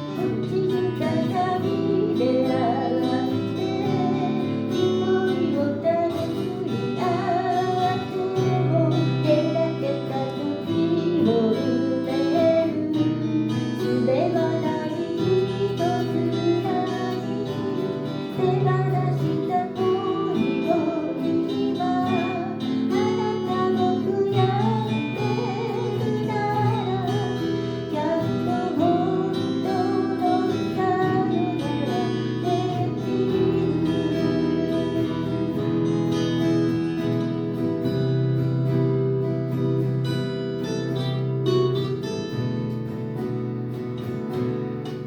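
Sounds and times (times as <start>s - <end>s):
person singing: 0.0s - 38.2s
acoustic guitar strummed and picked: 0.0s - 45.0s.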